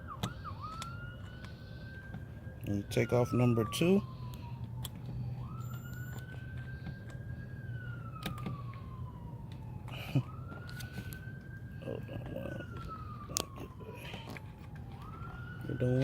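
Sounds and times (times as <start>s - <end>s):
wailing siren: 0.0s - 16.0s.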